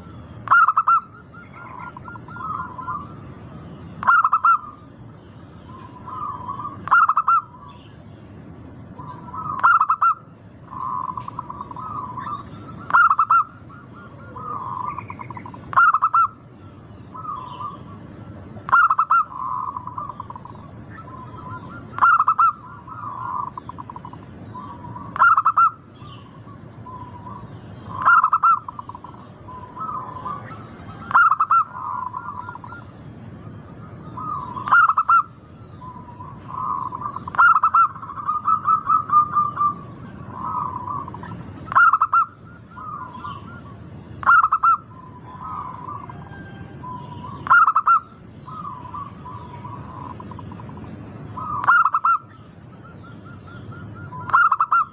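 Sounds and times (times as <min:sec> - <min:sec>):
dove cooing: 0:00.0 - 0:03.2, 0:04.0 - 0:04.9, 0:05.7 - 0:07.8, 0:09.0 - 0:54.9.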